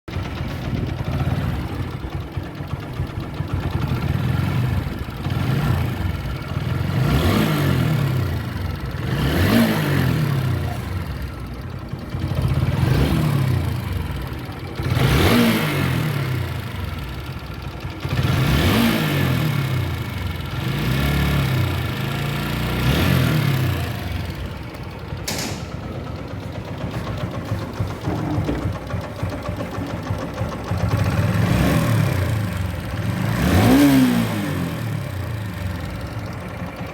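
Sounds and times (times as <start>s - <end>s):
motorcycle engine revving: 0.1s - 36.9s.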